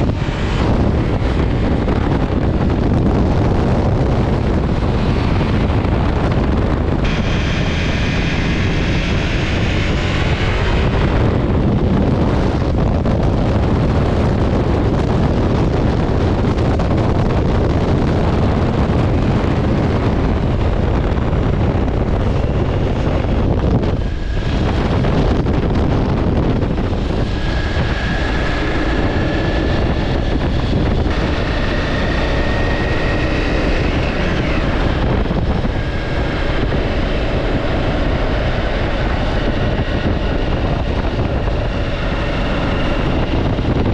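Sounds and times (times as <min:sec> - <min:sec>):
motorcycle engine running: 0:00.0 - 0:43.9
wind rushing over microphone: 0:00.0 - 0:43.9.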